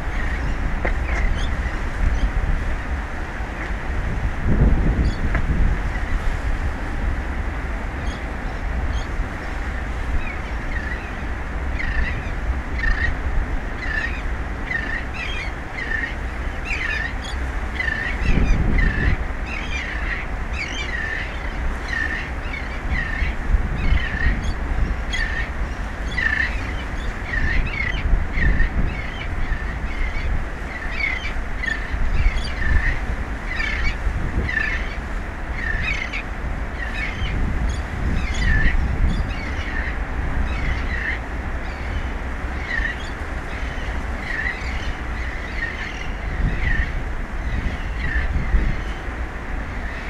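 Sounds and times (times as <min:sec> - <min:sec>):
birds calling: 0:00.0 - 0:04.2, 0:07.9 - 0:50.0
wind rumble on microphone: 0:00.0 - 0:50.0.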